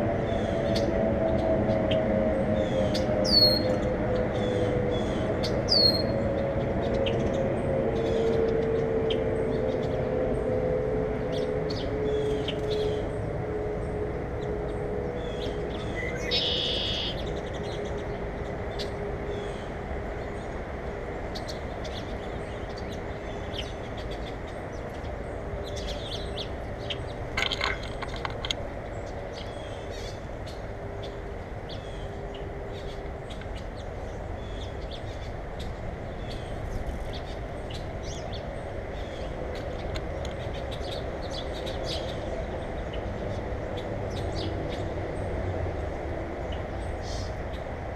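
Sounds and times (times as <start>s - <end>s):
birds chirping: 0.3s - 10.4s, 11.2s - 45.4s.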